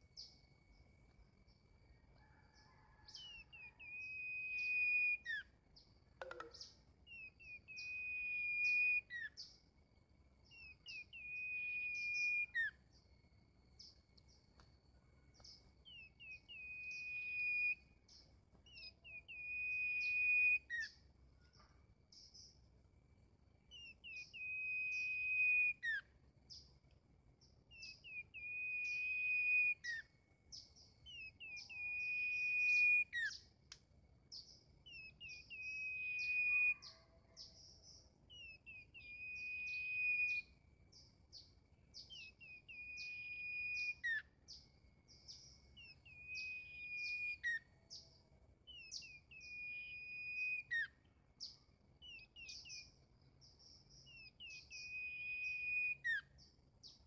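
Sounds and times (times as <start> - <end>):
bulbul singing: 3.2 - 9.6, 10.4 - 13.1, 15.4 - 21.0, 23.7 - 26.8, 27.4 - 33.5, 34.3 - 48.1, 48.7 - 57.0.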